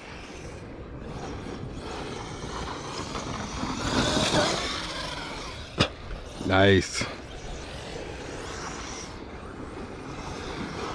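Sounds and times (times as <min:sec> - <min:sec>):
electric rc car running over dirt: 0:00.0 - 0:10.9.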